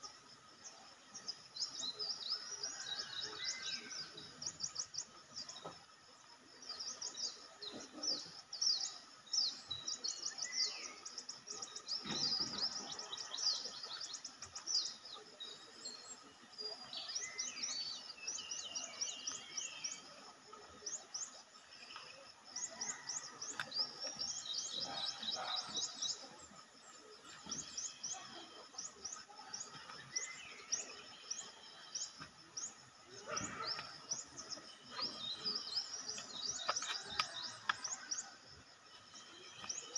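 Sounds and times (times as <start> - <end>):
birds chirping: 0.0 - 5.9, 6.5 - 39.9.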